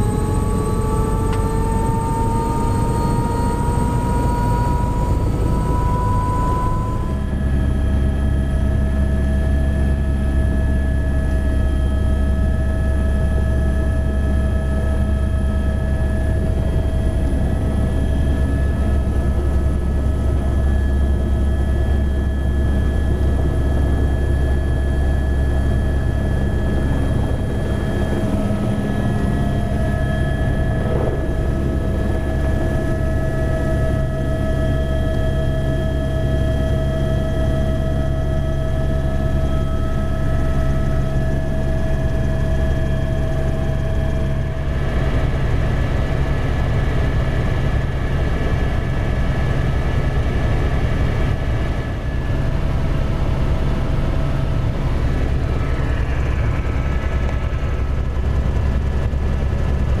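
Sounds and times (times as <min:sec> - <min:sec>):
helicopter engine and rotor drone: 0:00.0 - 1:00.0
high turbine whine: 0:00.0 - 1:00.0.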